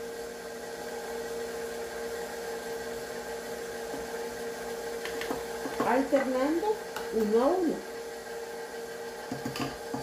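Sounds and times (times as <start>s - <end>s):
stand mixer whisking batter: 0.0s - 10.0s.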